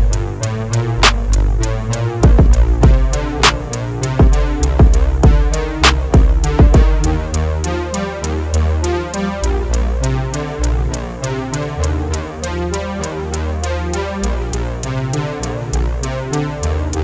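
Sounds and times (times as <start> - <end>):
electronic music with steady beat: 0.0 - 17.0.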